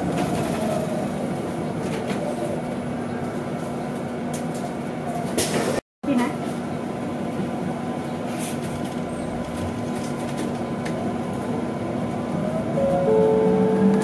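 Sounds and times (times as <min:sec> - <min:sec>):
bus road noise: 0:00.0 - 0:14.0.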